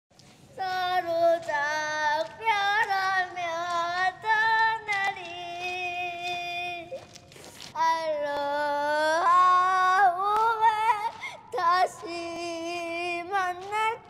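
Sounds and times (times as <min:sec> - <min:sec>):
high voice singing slow melody: 0:00.6 - 0:14.0.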